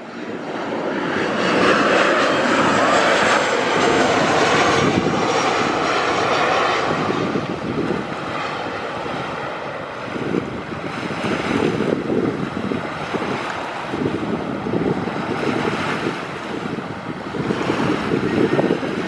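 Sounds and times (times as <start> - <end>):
jet engines rushing past: 0.0 - 19.0
wind buffeting microphone: 0.1 - 19.0.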